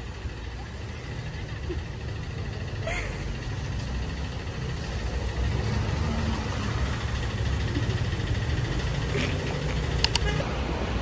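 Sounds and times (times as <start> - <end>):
vehicle engine idling: 0.0 - 10.4.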